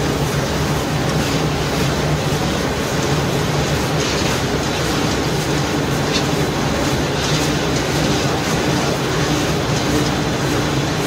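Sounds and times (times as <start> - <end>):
popcorn kettle stirring arm churning: 0.0 - 11.0.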